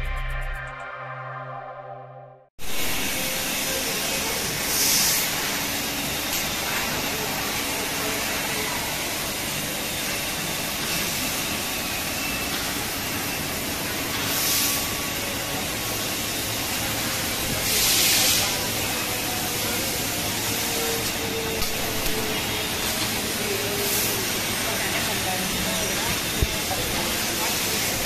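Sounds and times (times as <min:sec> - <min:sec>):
laser cutter gas jet hiss: 0:02.6 - 0:28.0.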